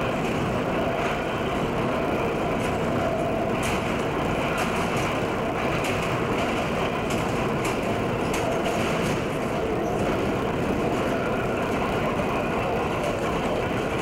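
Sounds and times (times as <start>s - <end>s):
subway train running on rails: 0.0s - 14.0s.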